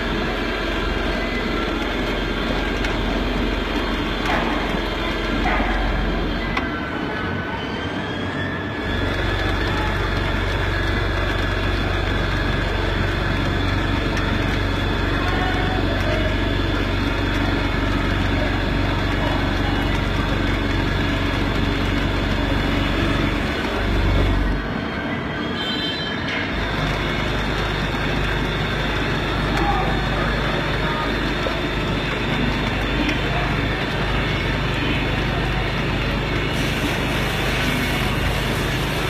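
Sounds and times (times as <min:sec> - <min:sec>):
high machine whine: 0:00.0 - 0:39.0
lathe machine drone: 0:00.0 - 0:39.0.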